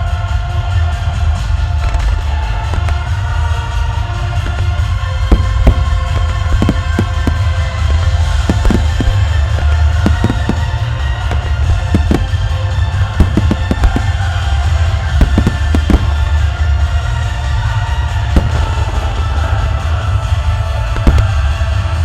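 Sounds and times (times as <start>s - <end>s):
deep rumble: 0.8s - 22.0s
orchestral music: 1.5s - 22.0s
fireworks bursting with sharp bangs: 1.6s - 22.0s.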